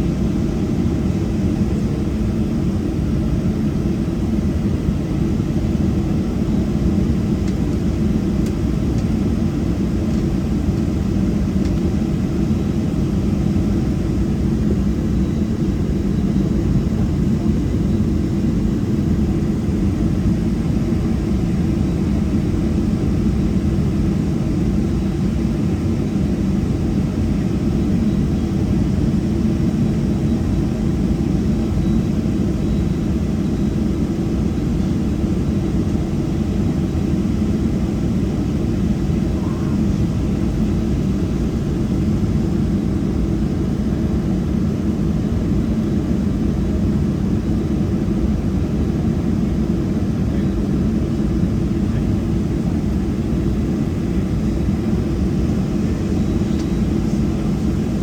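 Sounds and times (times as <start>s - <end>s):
jet engines at taxi power: 0.0s - 58.0s.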